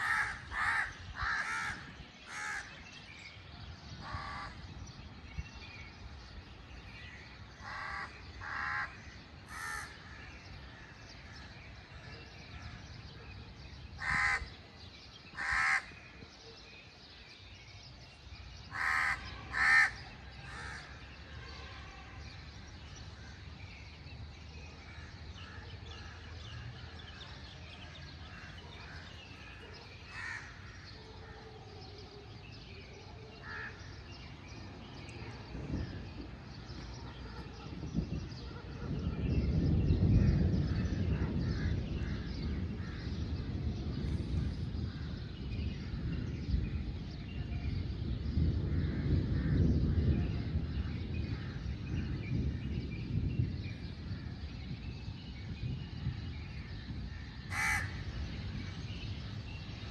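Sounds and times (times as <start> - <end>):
birds calling: 0.0 - 5.3, 5.9 - 22.4, 24.6 - 54.8, 56.9 - 59.9.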